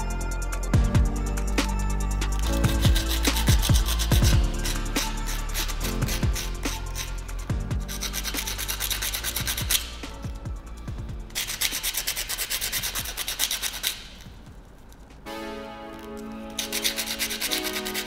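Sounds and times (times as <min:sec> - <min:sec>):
abrasive rubbing strokes: 0:01.3 - 0:15.2, 0:15.8 - 0:18.0.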